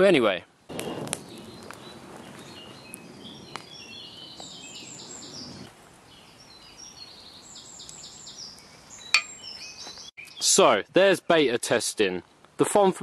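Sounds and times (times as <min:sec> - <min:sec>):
campfire crackling: 0:00.0 - 0:10.0, 0:11.6 - 0:12.6.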